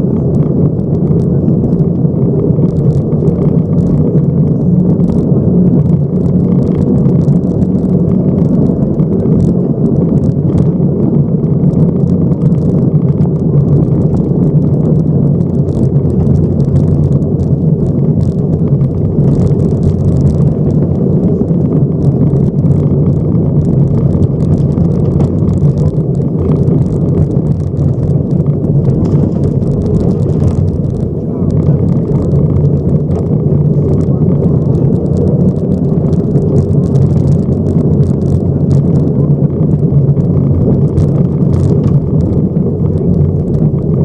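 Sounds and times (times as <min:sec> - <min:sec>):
car engine droning: 0:00.0 - 0:44.0
gravel pinging against car underside: 0:00.0 - 0:44.0.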